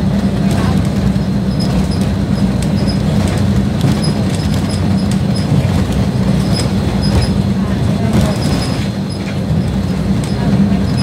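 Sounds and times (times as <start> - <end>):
bus engine drone: 0.0 - 11.0
road rumble: 0.0 - 11.0
rattling bus body clicks and squeaks: 0.4 - 11.0.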